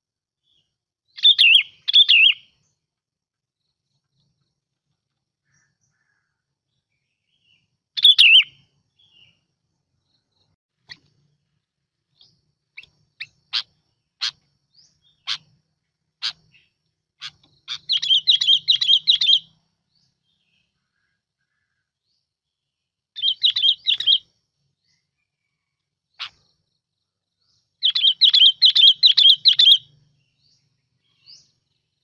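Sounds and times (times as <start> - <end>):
bulbul singing: 0.4 - 3.0, 5.4 - 22.4, 23.1 - 32.0.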